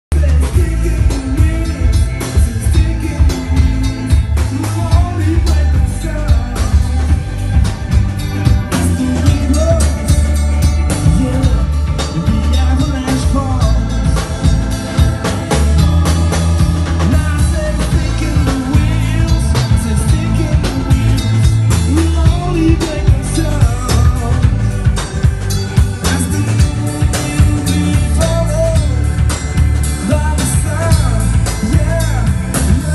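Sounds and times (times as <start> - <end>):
drum kit: 0.1 - 32.9
heavy bass line: 0.1 - 32.9
person singing: 0.2 - 14.3, 16.8 - 32.9.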